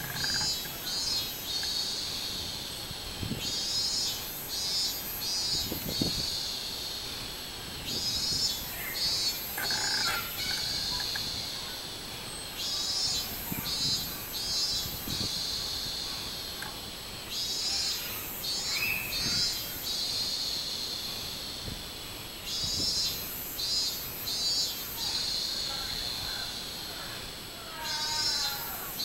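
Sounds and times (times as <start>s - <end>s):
cicada singing: 0.0s - 29.0s.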